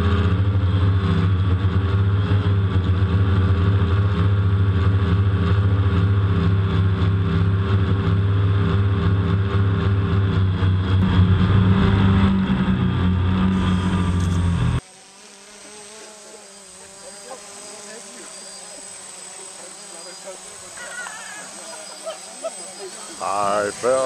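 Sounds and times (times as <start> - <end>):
drone motors humming: 0.0 - 24.0
faint drone buzz overhead: 0.0 - 24.0.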